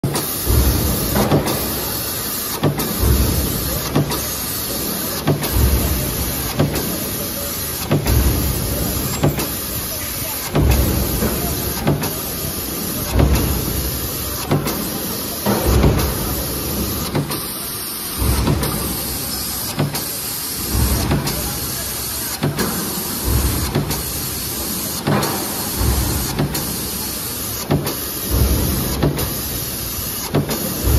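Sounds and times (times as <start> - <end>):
power press knock and thud: 0.0 - 17.5, 18.1 - 21.8, 22.4 - 30.9
machine running noise: 0.0 - 30.9.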